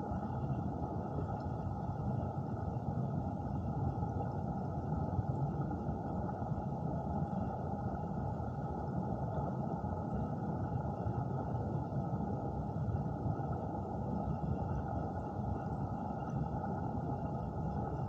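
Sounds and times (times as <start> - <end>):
underwater stream rush: 0.0 - 18.0.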